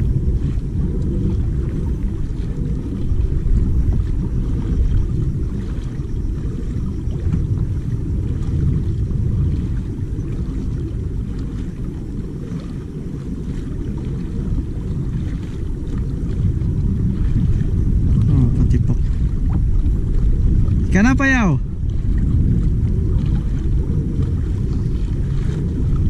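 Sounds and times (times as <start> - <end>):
water splashing against hull: 0.0 - 26.0
wind buffeting microphone: 0.0 - 26.0.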